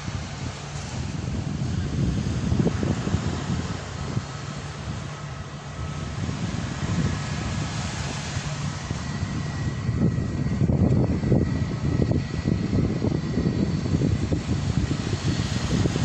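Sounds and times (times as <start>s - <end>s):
faint aircraft engine whine: 0.0s - 16.0s
wind buffeting microphone: 0.0s - 16.0s.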